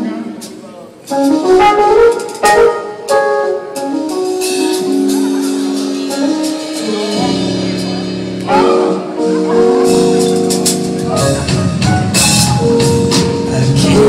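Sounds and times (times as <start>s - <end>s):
live band instrumental: 0.0s - 14.0s
keyboard runs and chords: 1.2s - 14.0s.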